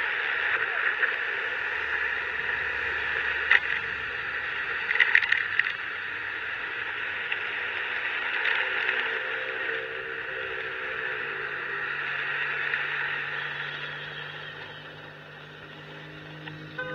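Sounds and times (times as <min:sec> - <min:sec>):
wind and road noise: 0:00.0 - 0:08.9, 0:11.6 - 0:16.9.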